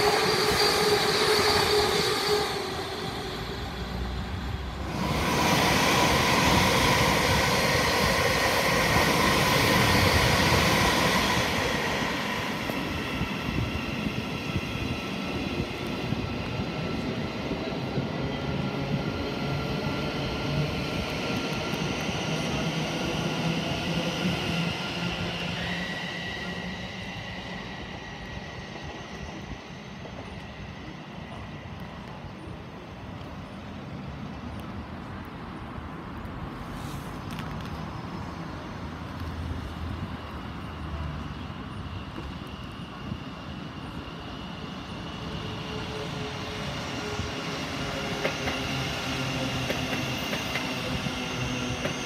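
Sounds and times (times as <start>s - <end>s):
train wheels rushing on rails: 0.0s - 33.9s, 36.5s - 52.0s.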